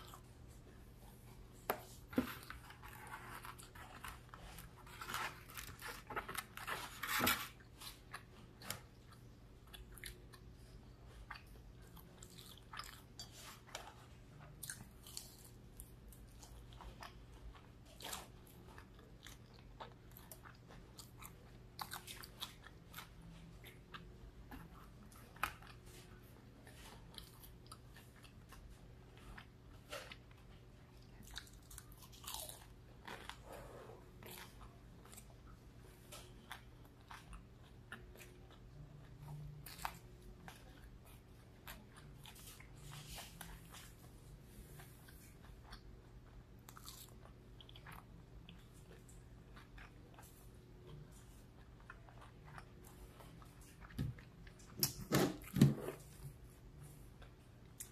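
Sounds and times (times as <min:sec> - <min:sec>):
crunchy chewing: 0:01.3 - 0:54.9.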